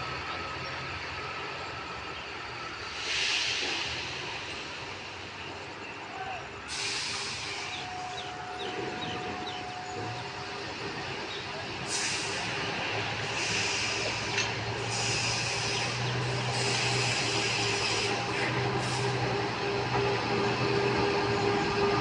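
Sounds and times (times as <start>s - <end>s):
train running on track: 0.0s - 22.0s.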